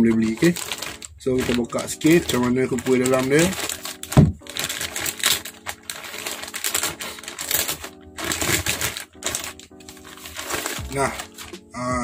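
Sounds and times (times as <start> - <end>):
plastic bag crinkling: 0.0 - 11.9
background music: 0.0 - 12.0.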